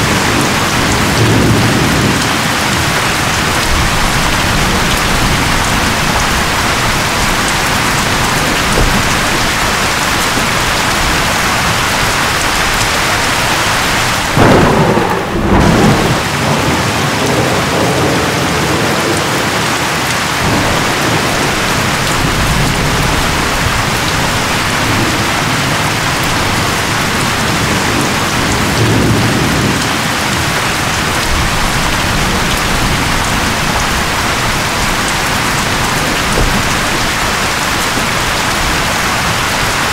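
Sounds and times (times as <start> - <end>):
storm wind and rain: 0.0 - 39.9.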